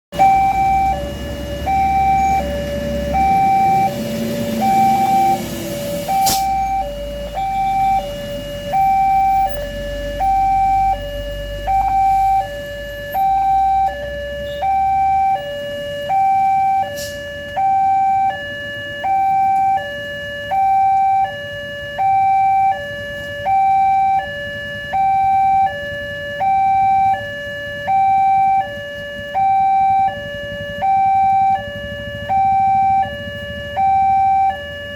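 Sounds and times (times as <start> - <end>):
level crossing two-tone alarm: 0.2 - 34.9.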